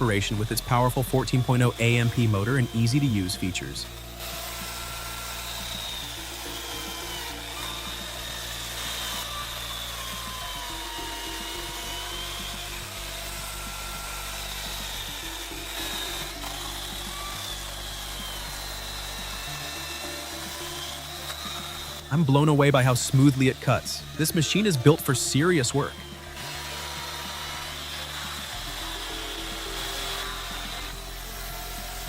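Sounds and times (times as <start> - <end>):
electric chainsaw cutting wood: 0.0 - 32.0.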